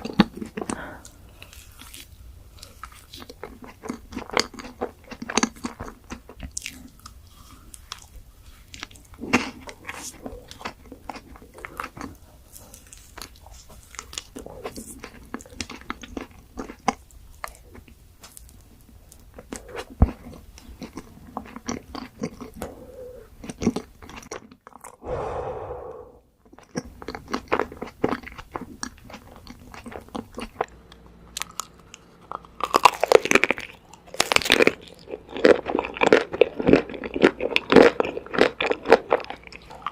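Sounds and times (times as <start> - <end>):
chewing and crunching ice cream bars: 0.0 - 25.0, 26.5 - 39.9.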